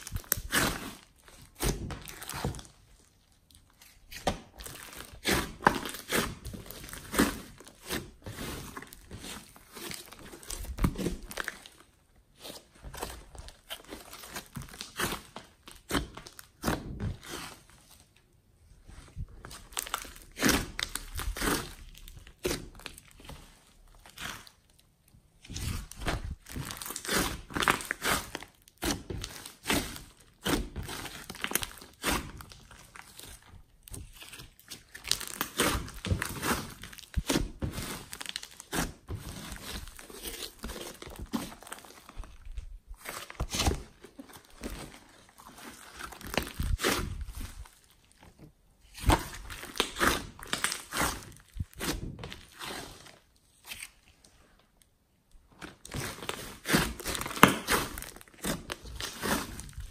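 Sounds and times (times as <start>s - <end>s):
hands squishing slime: 0.0s - 18.2s, 18.8s - 24.7s, 25.3s - 54.2s, 55.5s - 59.9s.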